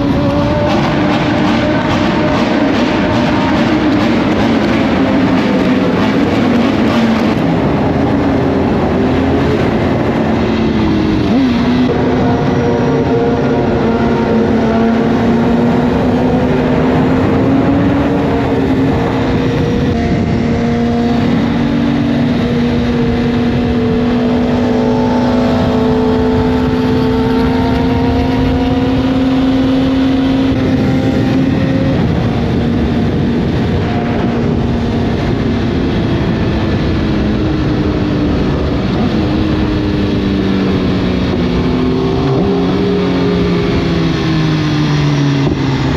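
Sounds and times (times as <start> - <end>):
motorcycle engines cruising: 0.0 - 45.9.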